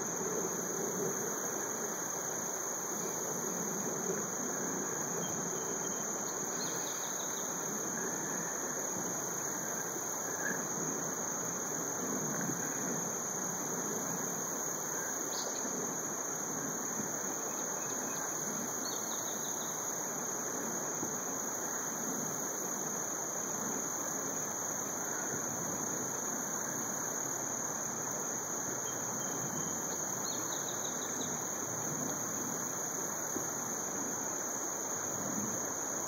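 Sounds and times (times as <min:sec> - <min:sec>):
outdoor hiss: 0:00.0 - 0:36.0.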